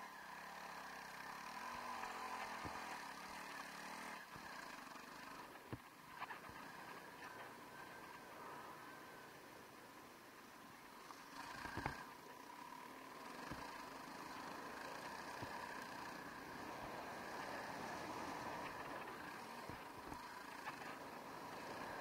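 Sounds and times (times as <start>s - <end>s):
motorcycle engine running: 0.0s - 9.3s, 10.8s - 22.0s.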